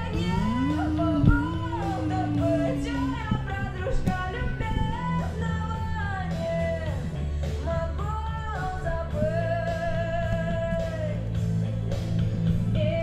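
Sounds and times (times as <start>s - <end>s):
woman singing slow song: 0.0s - 11.6s, 12.6s - 13.0s
low bass backing: 0.0s - 13.0s.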